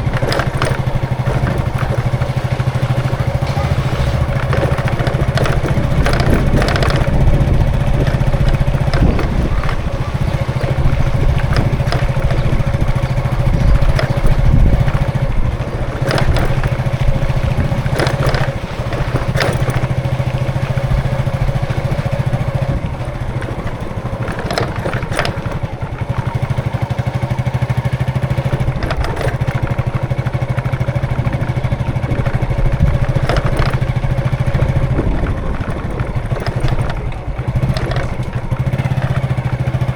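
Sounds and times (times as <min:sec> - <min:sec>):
engine idling: 0:00.0 - 0:39.9
passing vehicles clattering: 0:00.0 - 0:39.9.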